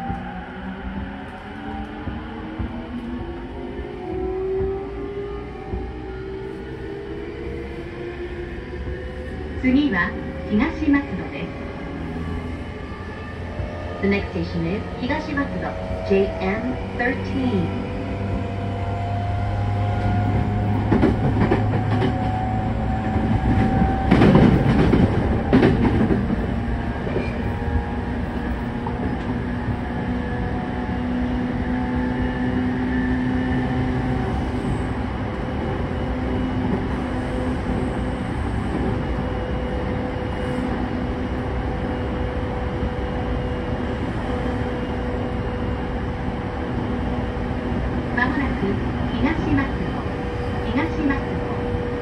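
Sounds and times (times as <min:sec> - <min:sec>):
train rumble: 0:00.0 - 0:52.0.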